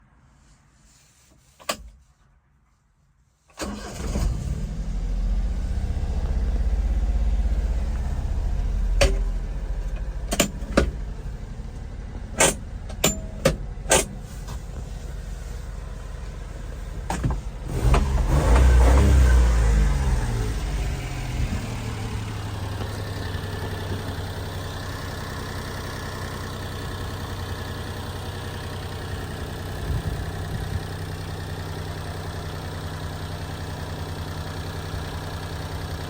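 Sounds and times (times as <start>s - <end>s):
small truck engine starting and idling: 3.5s - 36.0s.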